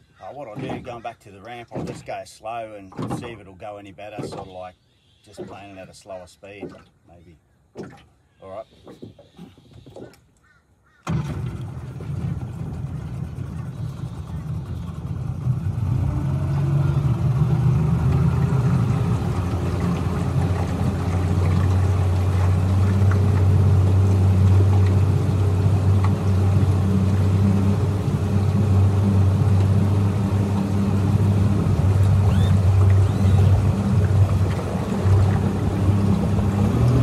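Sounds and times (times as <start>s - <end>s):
outboard motor humming: 0.0s - 37.0s.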